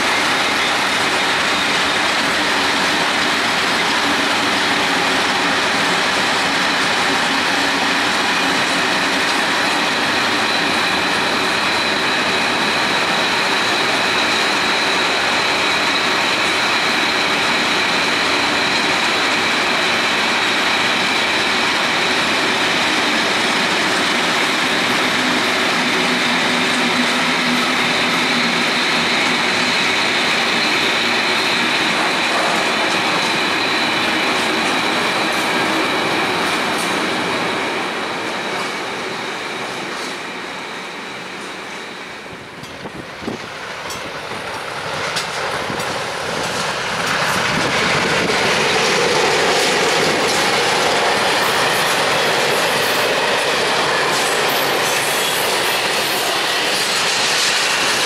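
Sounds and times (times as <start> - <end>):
high wheel squeal: 0.0 - 43.4, 45.0 - 58.0
train wagons rumbling on rails: 0.0 - 58.0.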